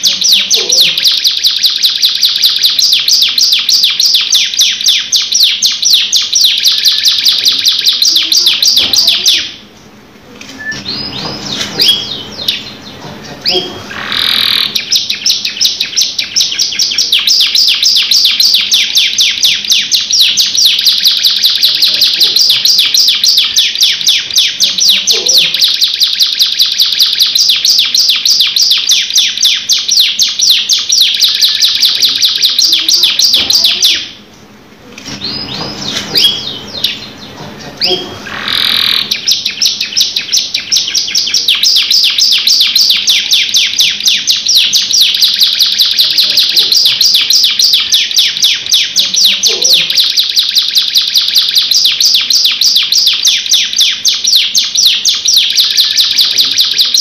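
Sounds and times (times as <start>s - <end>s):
canary singing a rolling trill: 0.0s - 9.8s, 10.5s - 57.0s.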